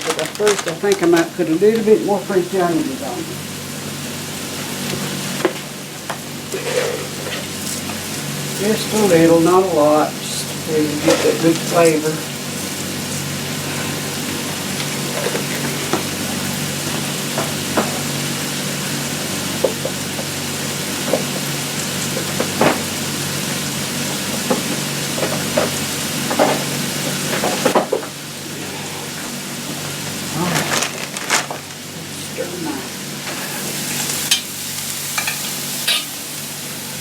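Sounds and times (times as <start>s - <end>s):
vegetables sizzling in a pan: 0.0s - 37.0s.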